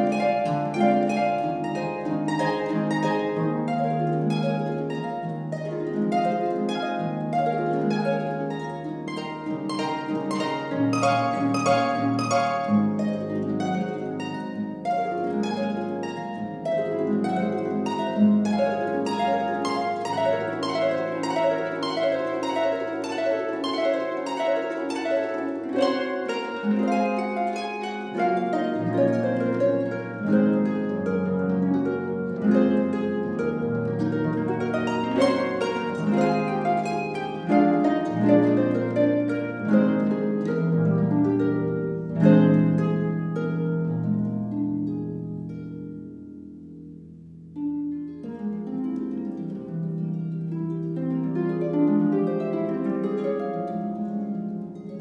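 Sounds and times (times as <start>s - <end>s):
harp playing: 0.0s - 55.0s.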